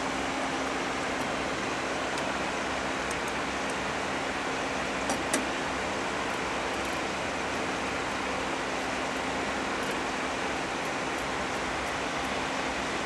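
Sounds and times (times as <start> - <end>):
cooling fans whirring: 0.0 - 13.0.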